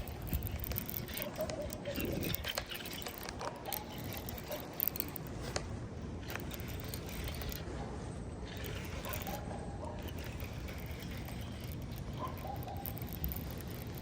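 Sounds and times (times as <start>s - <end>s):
fishing reel clicks: 0.0s - 5.6s, 6.2s - 7.7s, 8.4s - 14.0s
fishing reel whirring: 0.0s - 7.7s, 8.4s - 14.0s.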